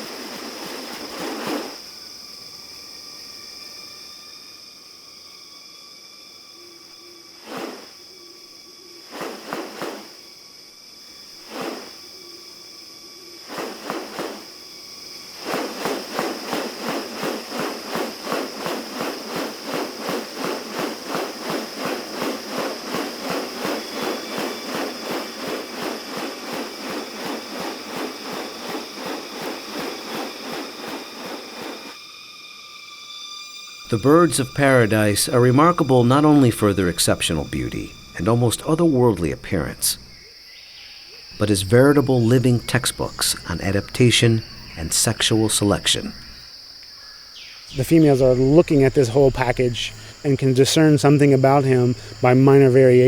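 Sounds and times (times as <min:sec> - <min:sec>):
harsh rasping insect pulses: 0:00.0 - 0:53.0
high-pitched insect drone: 0:00.0 - 0:53.0.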